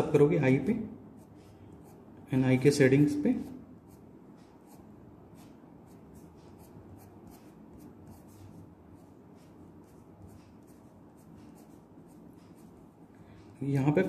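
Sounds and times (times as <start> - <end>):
pencil scratching on paper: 1.1 - 13.0.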